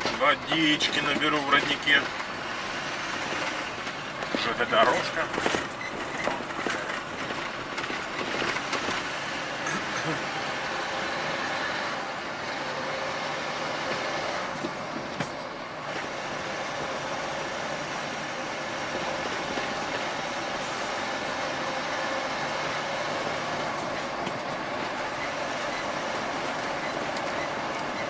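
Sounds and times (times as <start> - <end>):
truck running on road: 0.0 - 28.0.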